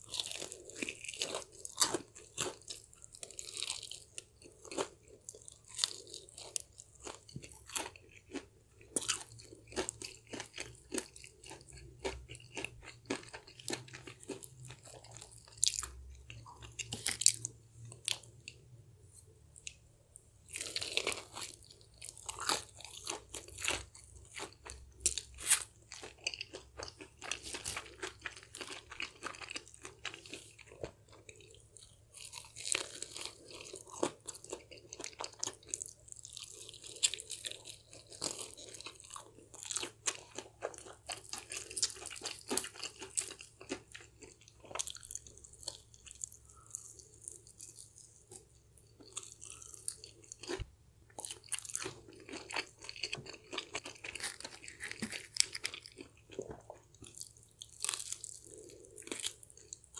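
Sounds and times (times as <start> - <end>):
crunching fried chicken: 0.0 - 18.6, 20.4 - 59.9
soft chewing: 0.0 - 59.9.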